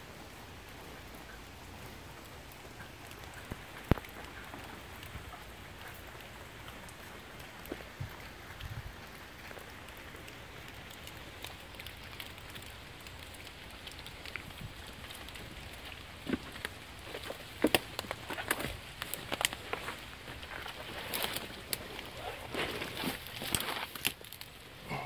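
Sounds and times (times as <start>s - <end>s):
small drips: 0.0s - 24.9s
rain pattering on leaves: 0.0s - 25.0s.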